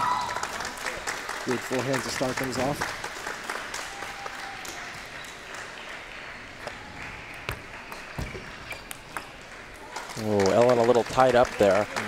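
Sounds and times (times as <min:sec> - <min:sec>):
applause in a large hall: 0:00.0 - 0:12.0.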